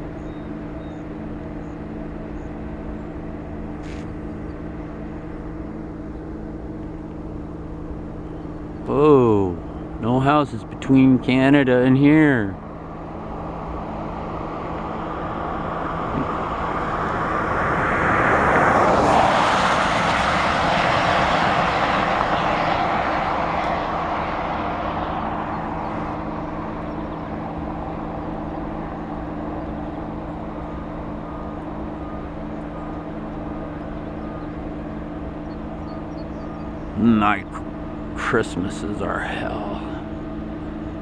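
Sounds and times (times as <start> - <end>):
aircraft passing overhead: 0.0 - 41.0
steady low hum: 0.0 - 41.0.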